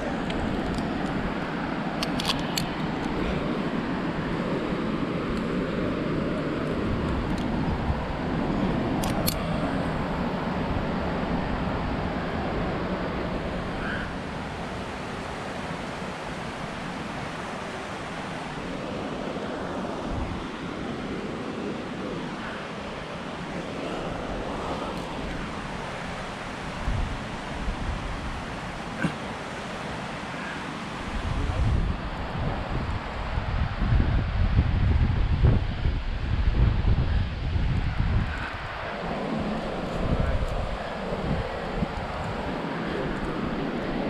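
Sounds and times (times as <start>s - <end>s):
wind noise on microphone: 0.0s - 29.0s, 30.9s - 44.0s.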